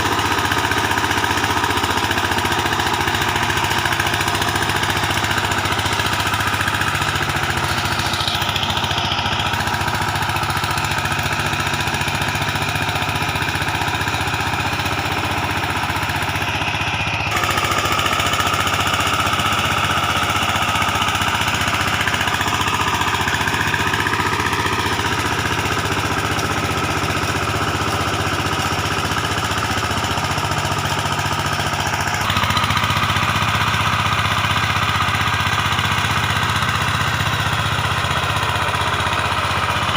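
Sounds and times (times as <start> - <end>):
diesel tiller engine knocking: 0.0 - 39.9.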